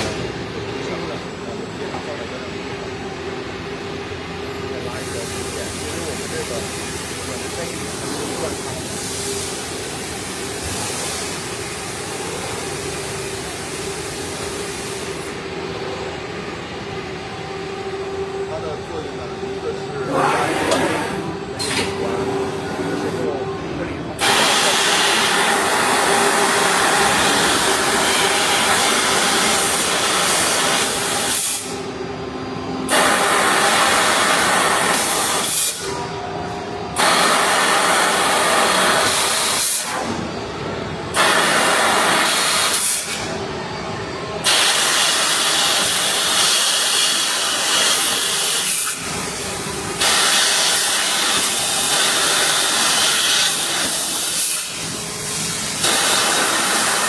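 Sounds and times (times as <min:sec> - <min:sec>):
laser cutter assist gas hissing: 0:04.6 - 0:16.1, 0:18.2 - 0:32.0, 0:32.8 - 0:57.0.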